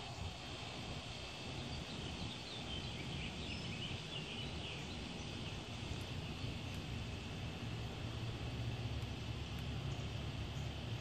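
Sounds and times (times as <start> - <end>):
low background rumble: 0.0 - 11.0
songbirds twittering: 0.0 - 11.0.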